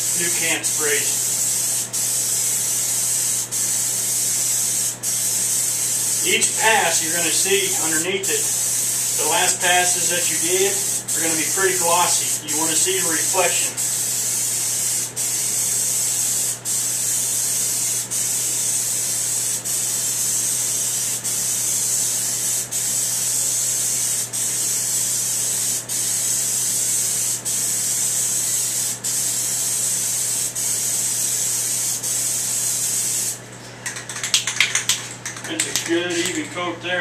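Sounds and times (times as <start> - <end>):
aerosol spray can hissing: 0.0 - 33.4.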